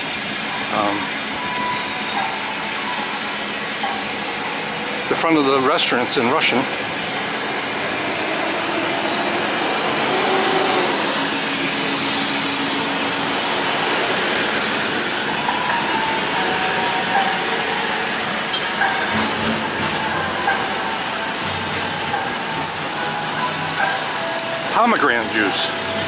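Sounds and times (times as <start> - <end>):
passing vehicle engines: 0.0 - 26.0
tyres on the road: 0.0 - 26.0.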